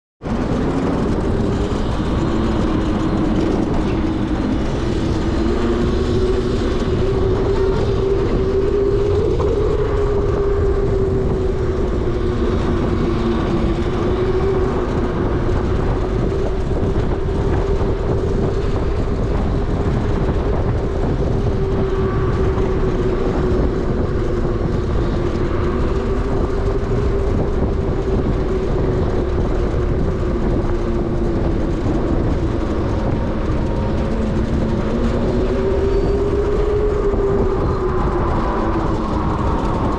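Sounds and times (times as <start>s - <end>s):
wind rumble on microphone: 0.2s - 39.9s
electric motorbike motor whine: 0.3s - 39.9s.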